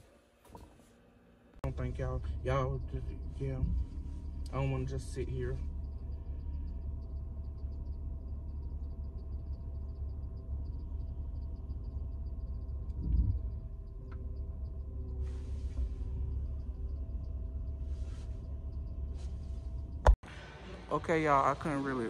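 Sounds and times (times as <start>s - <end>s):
car engine idling: 1.6s - 22.0s.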